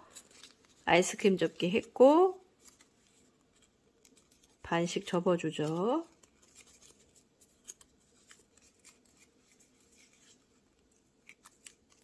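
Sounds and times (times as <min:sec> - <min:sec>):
paper being folded: 0:00.0 - 0:12.0.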